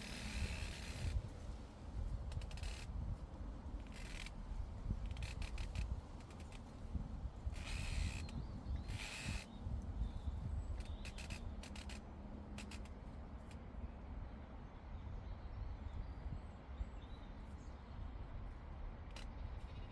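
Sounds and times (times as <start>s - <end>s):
wind rumble on microphone: 0.0s - 12.5s, 14.9s - 19.9s.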